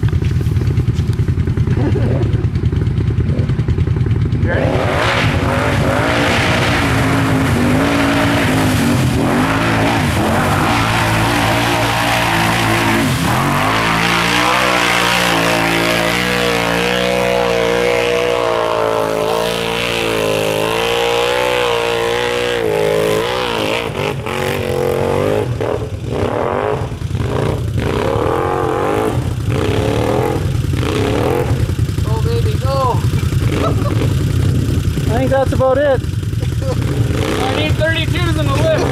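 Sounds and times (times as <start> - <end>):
atv engine revving: 0.0 - 38.9
quad churning through mud: 0.0 - 38.9.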